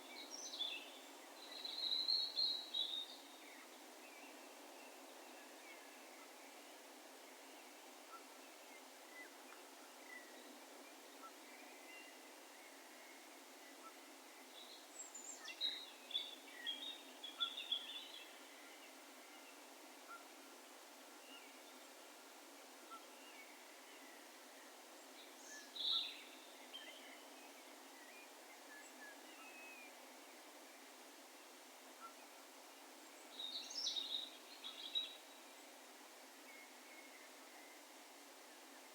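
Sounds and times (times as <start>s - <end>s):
open-air background hiss: 0.0s - 38.9s.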